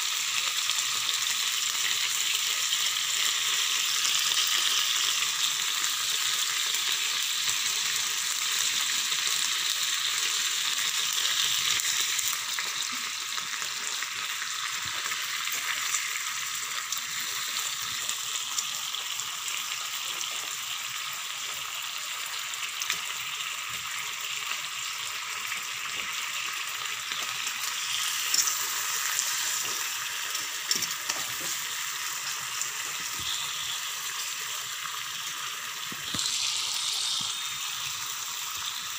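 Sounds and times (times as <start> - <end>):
meat frying with crackling sizzle: 0.0 - 38.9.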